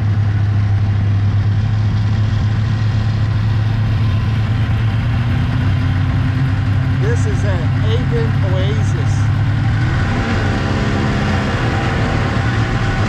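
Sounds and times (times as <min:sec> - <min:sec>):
snowmobile engine droning: 0:00.0 - 0:13.0.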